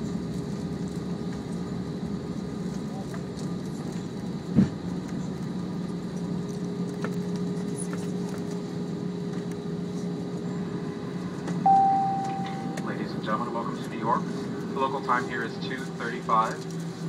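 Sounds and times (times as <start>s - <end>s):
airliner cabin engine hum: 0.0s - 17.0s.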